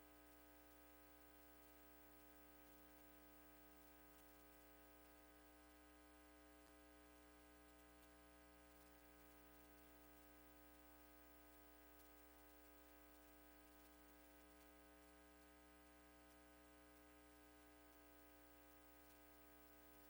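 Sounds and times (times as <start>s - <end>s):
faint electrical hum with hiss: 0.0s - 20.0s.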